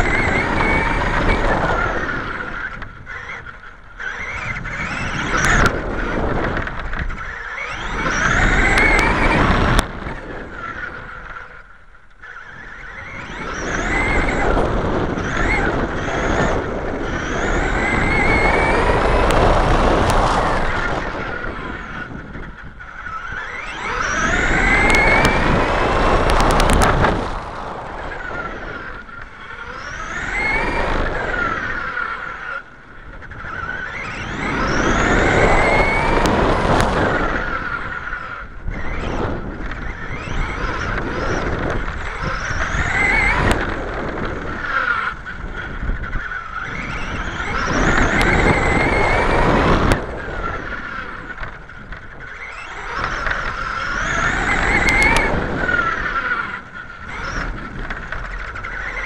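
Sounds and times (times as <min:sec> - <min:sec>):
drivetrain and tyre rushing: 0:00.0 - 0:59.0
electric motor whine: 0:00.0 - 0:59.0.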